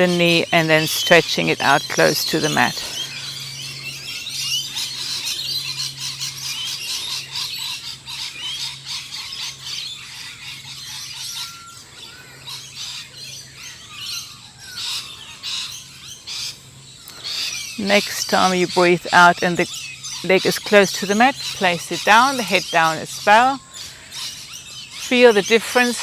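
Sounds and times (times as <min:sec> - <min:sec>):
birds chirping and squawking: 0:00.0 - 0:26.0
faint steady low hum: 0:00.0 - 0:26.0.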